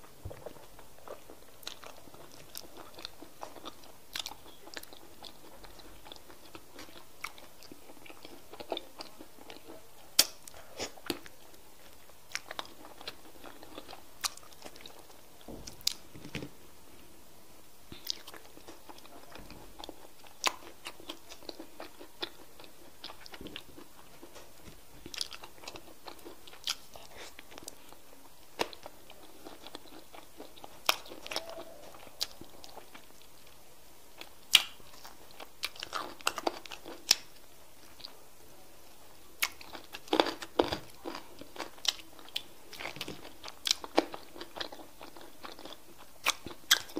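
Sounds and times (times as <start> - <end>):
chewing and crunching: 0.0 - 16.5, 17.9 - 33.6, 34.2 - 38.2, 39.4 - 46.9.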